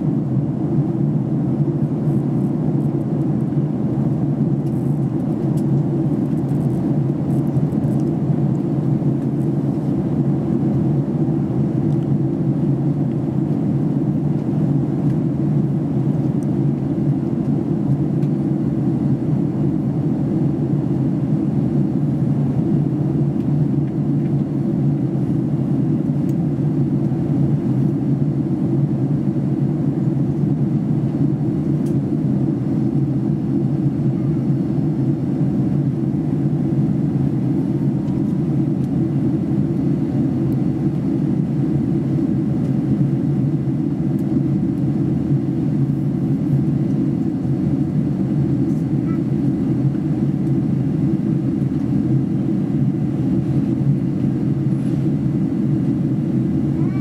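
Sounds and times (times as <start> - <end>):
airliner cabin roar: 0.0 - 57.0.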